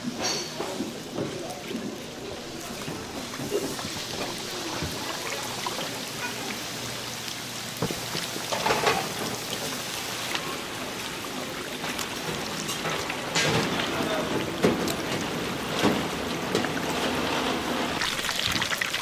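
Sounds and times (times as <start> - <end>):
chicken sizzling in hot oil: 2.3 - 19.0.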